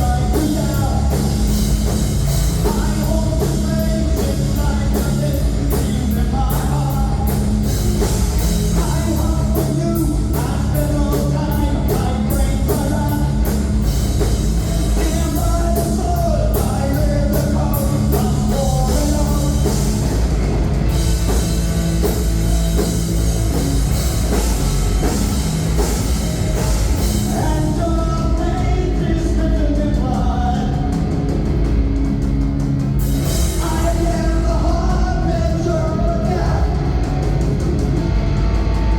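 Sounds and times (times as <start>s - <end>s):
pounding drums: 0.0s - 38.9s
rock band playing: 0.0s - 38.9s.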